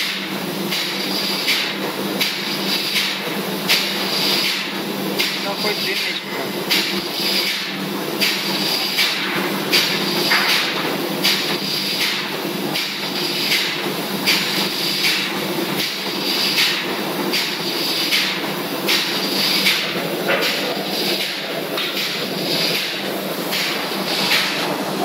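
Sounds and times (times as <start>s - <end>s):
engine room machinery hum: 0.0s - 25.0s.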